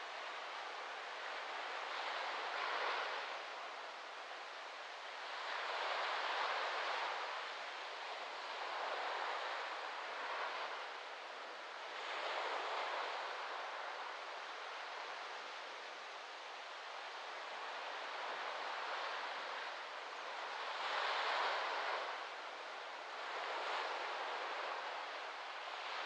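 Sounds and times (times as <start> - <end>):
small waves lapping on beach: 0.0 - 26.0.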